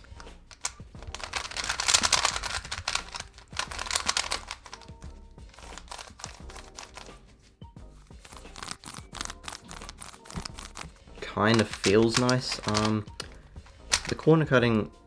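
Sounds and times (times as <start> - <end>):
puzzle cube layers clicking: 0.0 - 7.1, 8.2 - 14.8
soft background music: 0.0 - 15.0.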